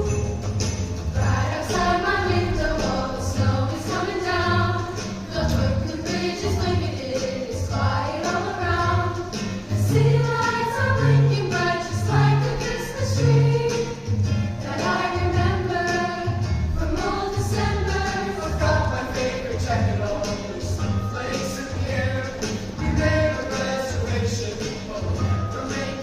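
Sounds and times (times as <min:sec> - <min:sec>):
vocal ensemble singing in harmony: 0:00.0 - 0:26.0.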